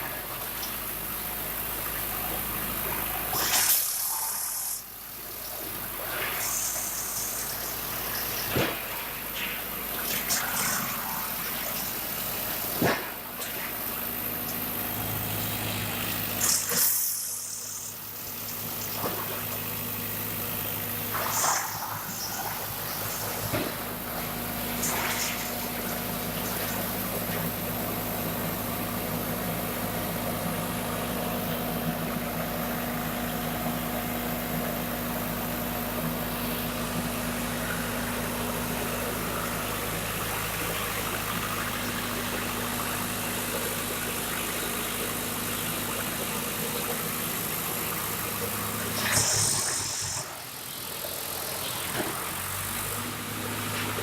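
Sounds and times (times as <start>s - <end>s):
wood chipper diesel engine running: 0.0s - 3.3s, 5.0s - 54.0s.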